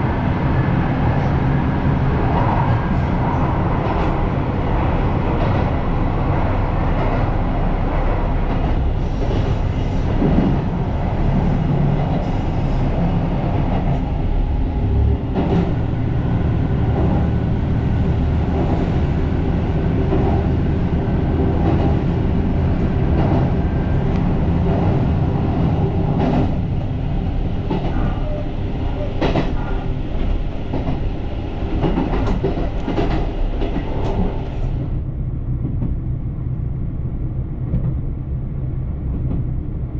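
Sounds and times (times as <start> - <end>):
train engine and wheels rumbling: 0.0 - 39.9.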